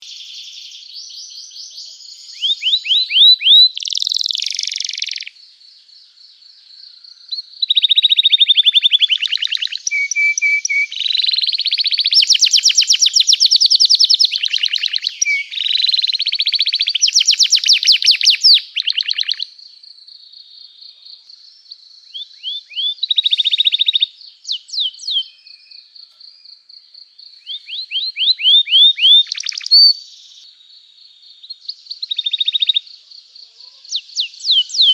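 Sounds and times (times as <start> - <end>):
canary singing trills: 0.0 - 5.4, 7.3 - 19.6, 20.9 - 26.4, 27.2 - 30.5, 31.3 - 34.9.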